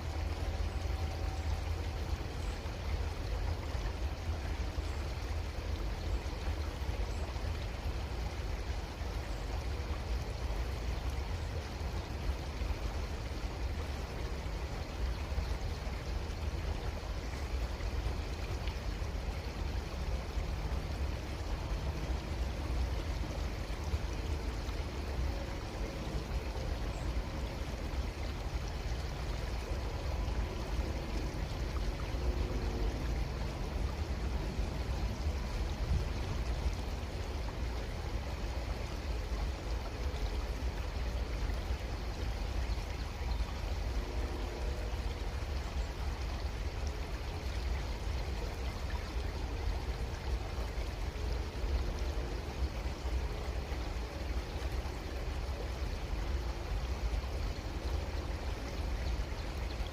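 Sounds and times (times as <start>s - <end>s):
creek water running: 0.0s - 59.9s.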